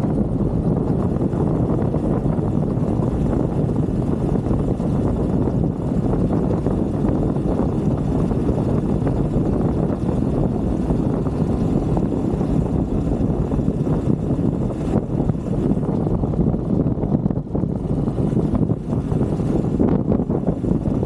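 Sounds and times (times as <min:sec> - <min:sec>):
motorbike engine riding off-road: 0:00.0 - 0:21.0.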